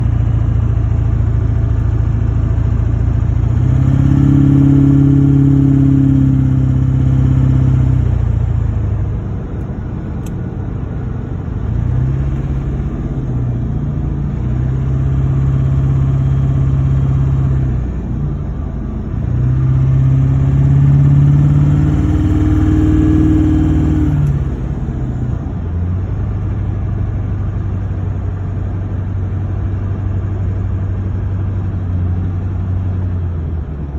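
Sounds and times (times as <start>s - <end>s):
diesel engine idling and revving: 0.0s - 33.9s.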